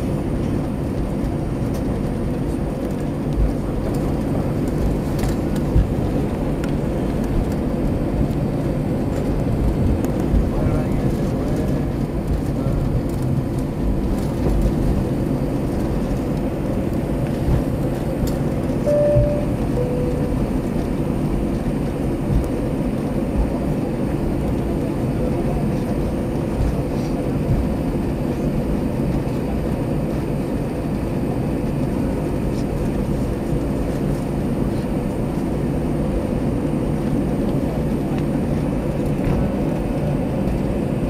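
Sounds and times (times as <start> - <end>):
aircraft cabin rumble: 0.0 - 41.0.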